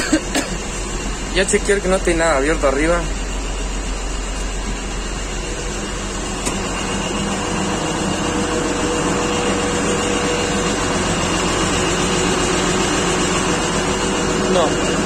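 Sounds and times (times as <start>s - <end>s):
air conditioning blowing: 0.0s - 15.0s
combine engine running: 0.0s - 15.0s.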